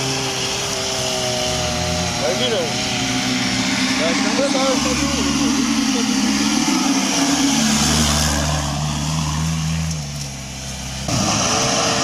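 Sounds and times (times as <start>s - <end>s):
loud noisy engine: 0.0s - 12.0s
vehicle engine under load: 0.0s - 12.0s.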